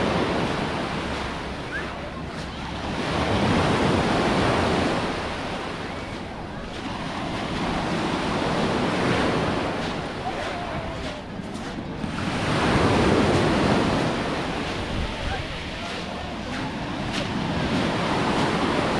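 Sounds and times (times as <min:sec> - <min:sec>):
waves washing up shingle beach: 0:00.0 - 0:18.9.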